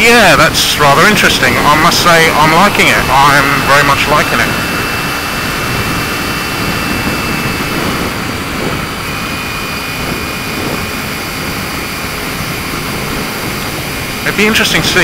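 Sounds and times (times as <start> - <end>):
motorcycle engine running: 0.0 - 15.0
wind rush: 0.0 - 15.0.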